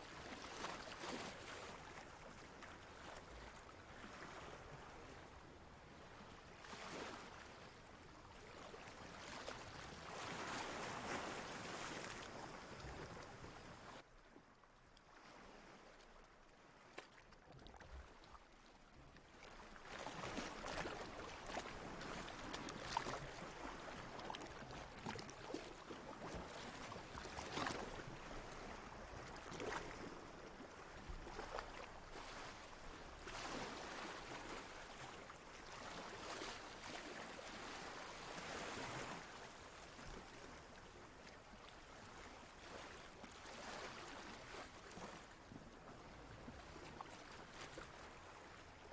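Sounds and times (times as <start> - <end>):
ocean water lapping and splashing: 0.0 - 48.9.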